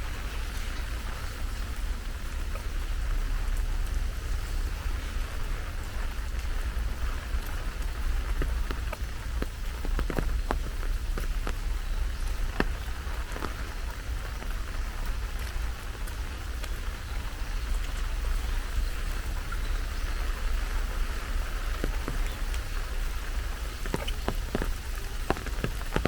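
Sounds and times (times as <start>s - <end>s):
heavy rain: 0.0s - 26.0s
sharp water drips close by: 0.0s - 26.0s.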